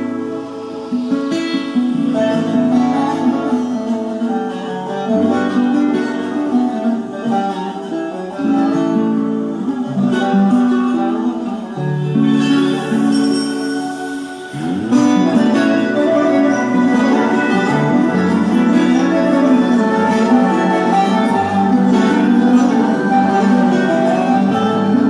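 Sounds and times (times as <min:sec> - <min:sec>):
plucked string instrument music: 0:00.0 - 0:25.0.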